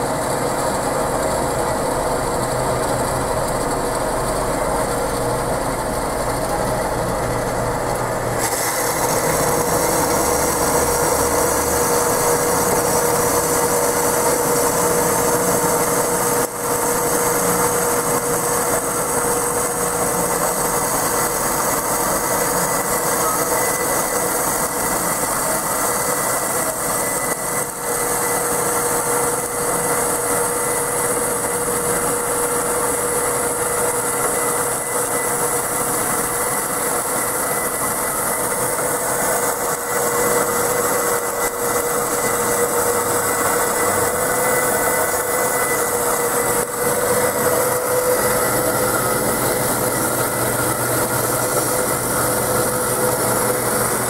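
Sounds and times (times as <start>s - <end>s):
band saw cutting steel: 0.0s - 54.0s
machine whine: 0.0s - 54.0s.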